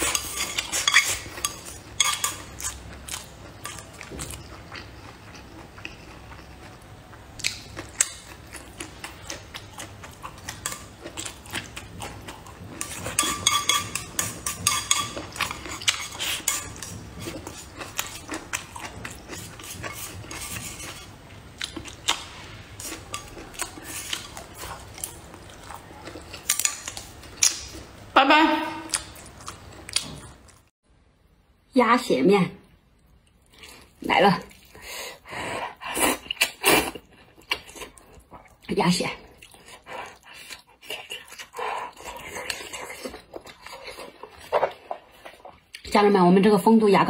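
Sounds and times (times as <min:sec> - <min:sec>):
chewing and eating: 0:00.0 - 0:28.0, 0:28.9 - 0:30.7, 0:33.0 - 0:45.9.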